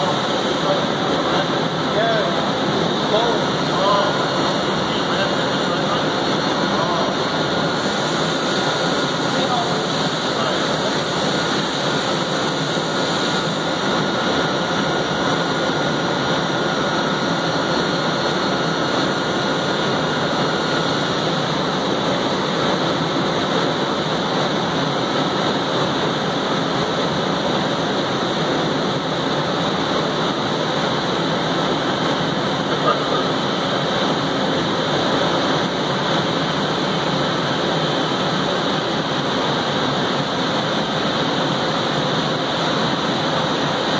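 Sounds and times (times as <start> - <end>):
machine whir and hiss: 0.0 - 43.9.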